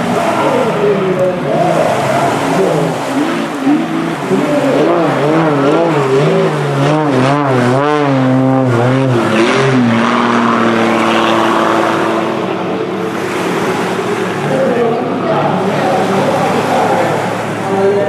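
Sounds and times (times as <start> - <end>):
propeller plane engine: 0.0 - 18.0.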